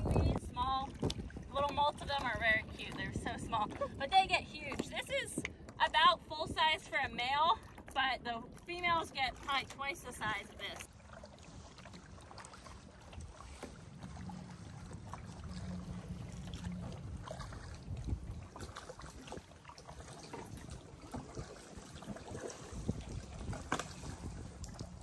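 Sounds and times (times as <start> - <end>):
small water splashes: 0.0 - 4.0, 7.5 - 25.0
wind rumbling on microphone: 0.0 - 25.0.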